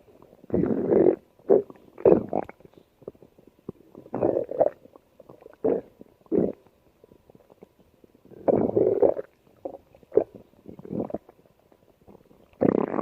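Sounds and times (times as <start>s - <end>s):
stomach growling: 0.0s - 13.0s.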